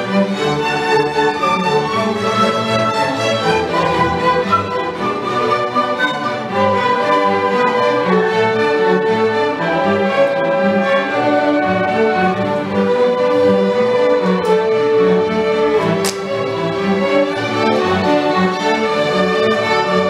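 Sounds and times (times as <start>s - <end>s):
string orchestra playing: 0.0s - 20.0s.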